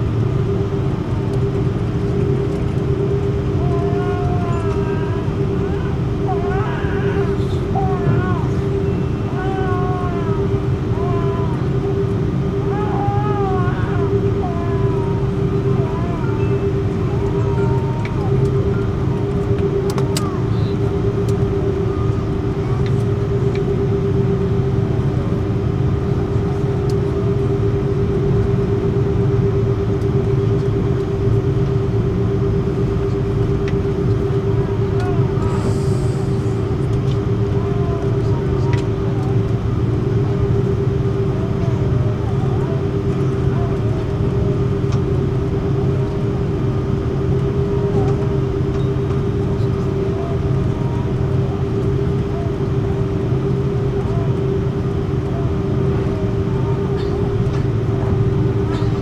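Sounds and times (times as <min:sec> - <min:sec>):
vehicle engine hum: 0:00.0 - 0:59.0.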